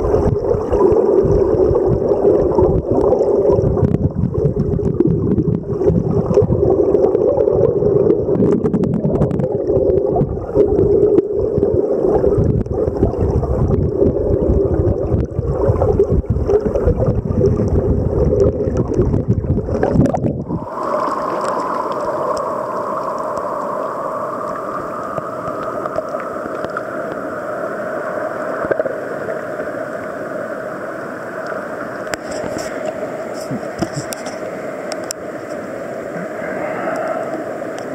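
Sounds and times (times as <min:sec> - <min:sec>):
muffled underwater rumble: 0:00.0 - 0:29.7, 0:31.4 - 0:37.9.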